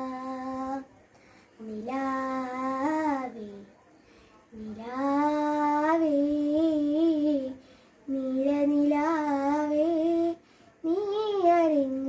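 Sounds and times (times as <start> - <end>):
girl singing unaccompanied: 0.0 - 1.0, 1.6 - 3.8, 4.5 - 12.0.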